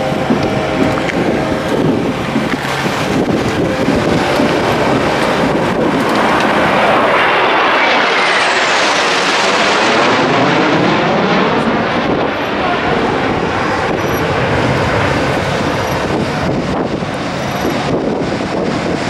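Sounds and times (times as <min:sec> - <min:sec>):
aircraft formation roaring overhead: 0:00.0 - 0:19.0
falling whine: 0:00.0 - 0:19.0.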